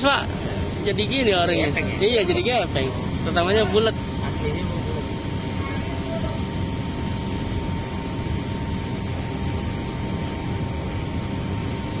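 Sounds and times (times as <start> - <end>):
faint high whine: 0.0 - 12.0
machinery rumble: 0.0 - 12.0.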